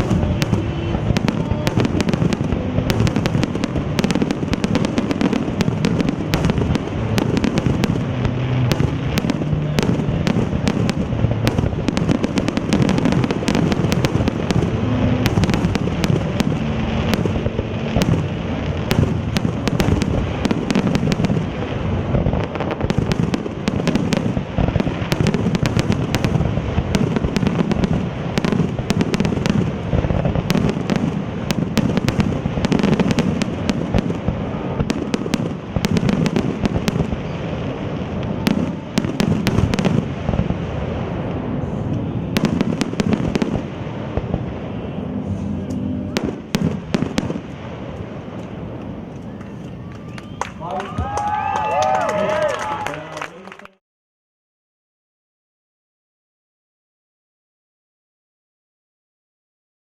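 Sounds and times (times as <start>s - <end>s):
heavy low rumble: 0.0s - 51.2s
fireworks bursting and crackling: 0.0s - 53.5s.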